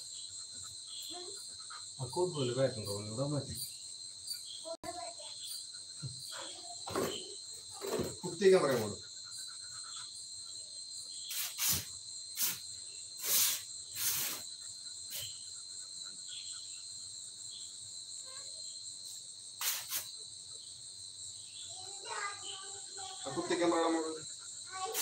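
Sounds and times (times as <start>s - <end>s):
insect chirring: 0.0s - 25.0s.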